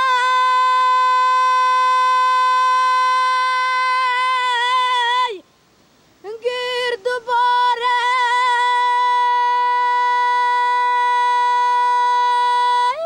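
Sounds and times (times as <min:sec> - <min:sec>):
high voice singing: 0:00.0 - 0:05.4, 0:06.2 - 0:13.0.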